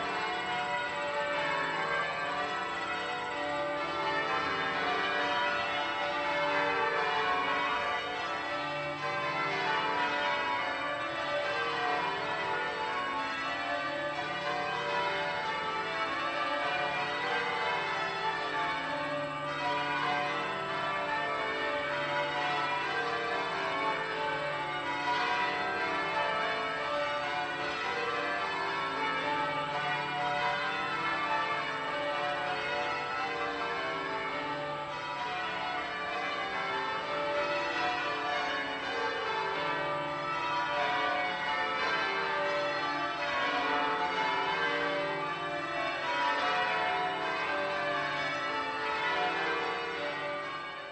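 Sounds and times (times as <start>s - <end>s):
tower bells ringing: 0.0s - 50.9s.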